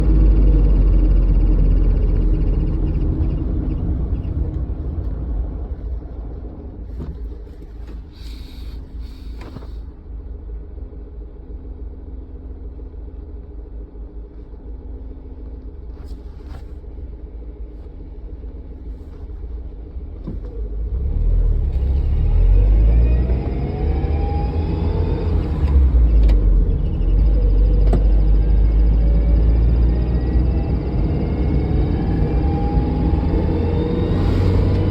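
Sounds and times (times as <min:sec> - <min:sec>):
vehicle engine and road rumble: 0:00.0 - 0:34.9.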